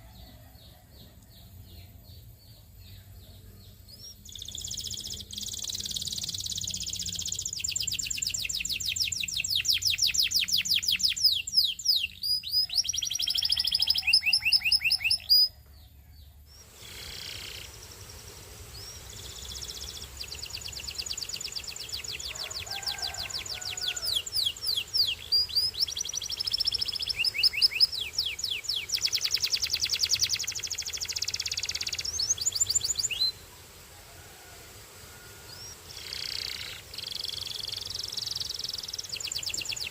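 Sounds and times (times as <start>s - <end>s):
canary singing trills: 0.0s - 18.1s, 18.7s - 33.4s, 35.4s - 39.9s.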